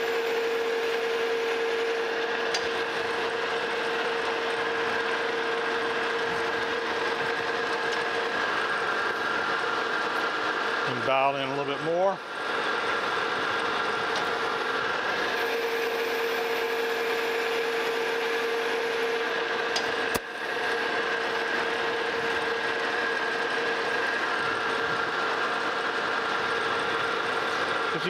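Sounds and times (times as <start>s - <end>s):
metal lathe whining: 0.0s - 28.0s.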